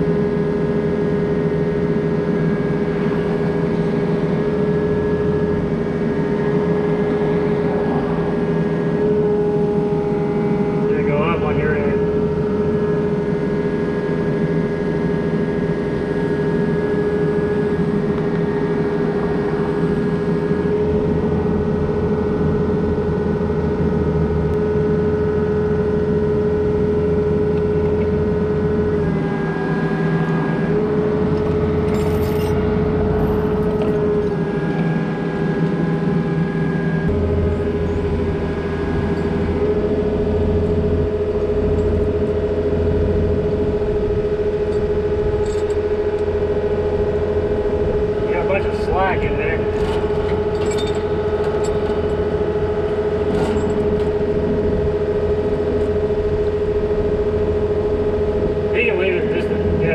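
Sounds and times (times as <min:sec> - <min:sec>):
excavator engine and hydraulics drone: 0:00.0 - 0:59.9
hydraulic whine: 0:00.0 - 0:59.9.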